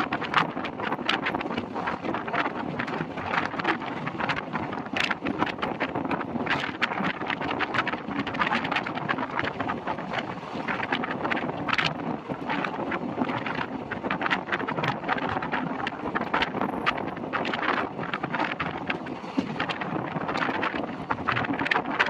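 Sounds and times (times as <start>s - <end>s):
train running on track: 0.0s - 21.7s
wind buffeting microphone: 0.0s - 22.0s.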